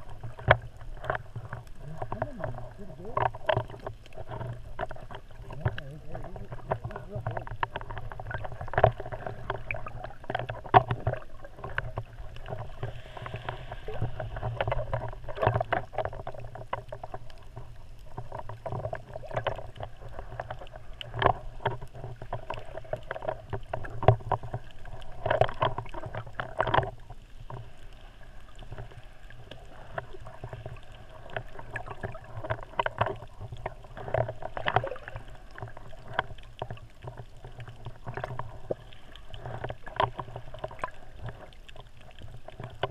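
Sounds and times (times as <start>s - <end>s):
muffled underwater water sloshing: 0.0s - 42.9s.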